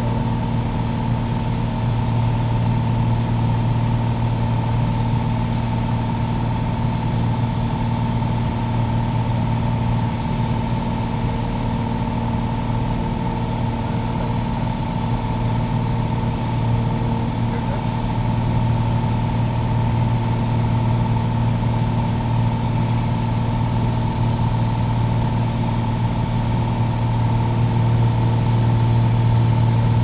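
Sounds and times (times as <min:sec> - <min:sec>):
propeller plane engine droning: 0:00.0 - 0:30.0.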